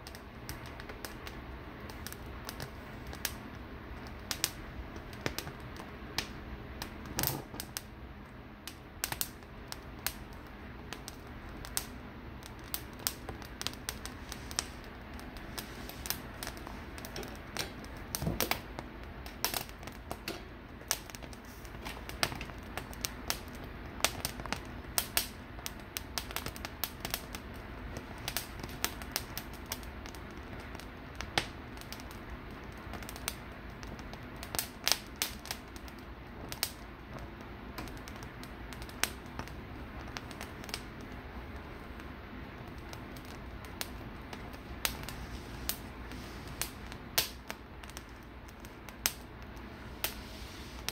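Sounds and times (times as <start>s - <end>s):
peppers crackling and popping: 0.0s - 7.9s, 8.6s - 50.2s
gas burner hiss: 0.0s - 50.9s.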